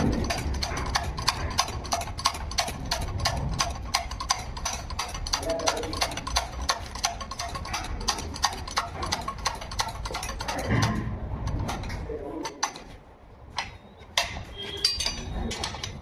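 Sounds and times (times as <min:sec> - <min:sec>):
sharp clicks and knocks: 0:00.0 - 0:16.0.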